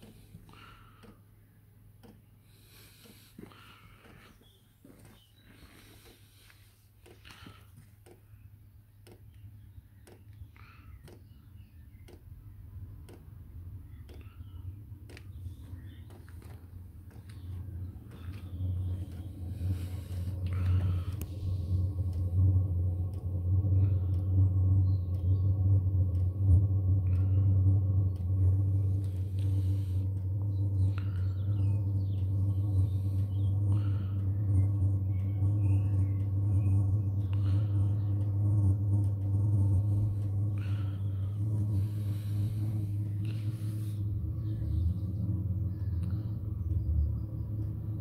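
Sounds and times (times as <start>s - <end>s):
air heater humming: 0.0s - 48.0s
faint whine: 0.0s - 48.0s.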